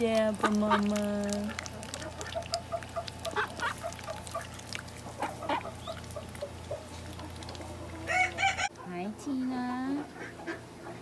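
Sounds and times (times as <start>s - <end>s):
ducks calling softly: 0.4s - 9.0s, 10.0s - 11.0s.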